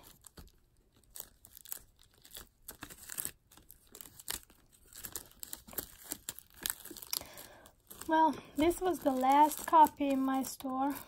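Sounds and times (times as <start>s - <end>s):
plastic shrink wrap tearing: 0.0s - 11.0s.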